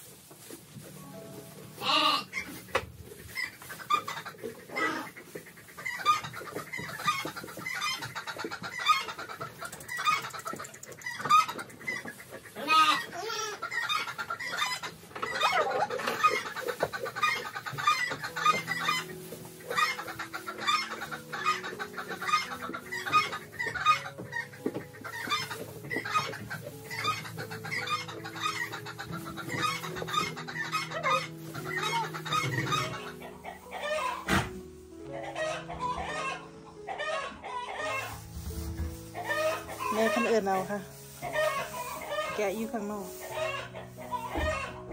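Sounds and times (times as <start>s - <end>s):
chickens clucking: 0.0s - 44.9s
soft background music: 0.0s - 44.9s.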